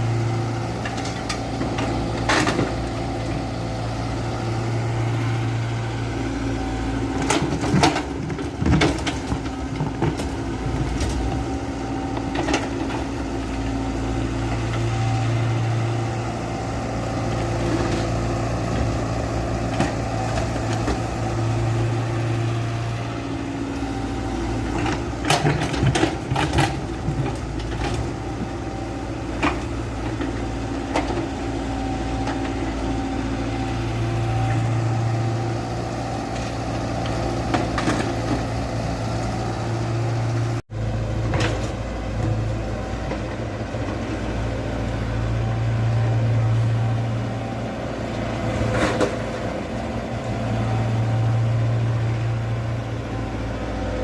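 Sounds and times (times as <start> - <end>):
heavy machinery engine hum: 0.0 - 54.0.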